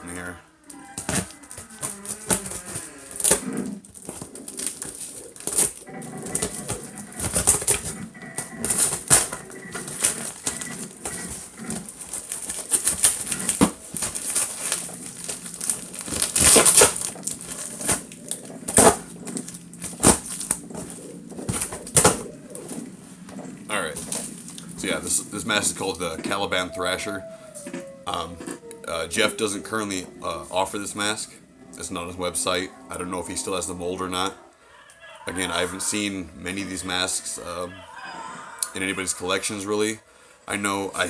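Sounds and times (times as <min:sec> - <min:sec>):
packaging crinkling: 0:00.6 - 0:33.6.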